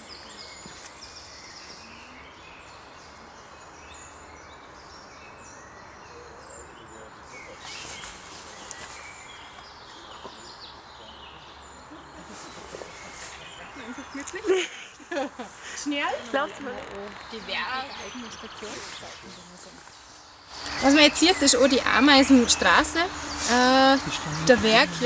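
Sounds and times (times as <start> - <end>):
songbirds singing and chirping: 0.0 - 25.0
woodland ambience hiss: 0.0 - 25.0.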